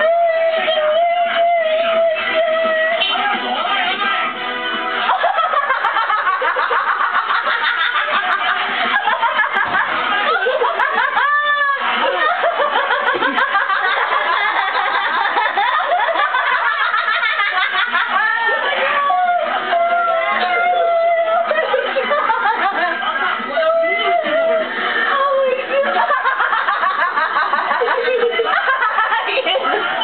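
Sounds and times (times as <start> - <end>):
people laughing: 5.0 - 30.0.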